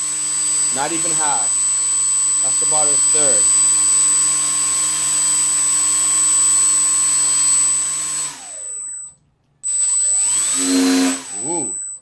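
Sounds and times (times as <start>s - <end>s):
electric motor propeller whine: 0.0s - 9.1s, 9.7s - 12.0s.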